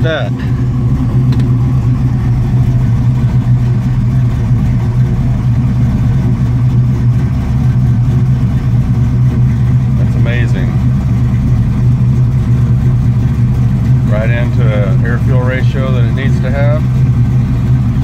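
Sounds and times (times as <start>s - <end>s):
car engine fast idle: 0.0s - 18.0s.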